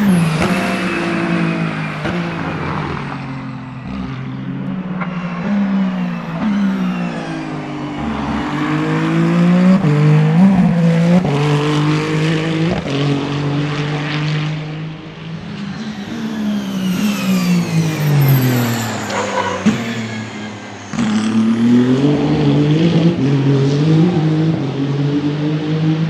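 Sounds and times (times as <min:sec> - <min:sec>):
race car engine revving: 0:00.0 - 0:26.0.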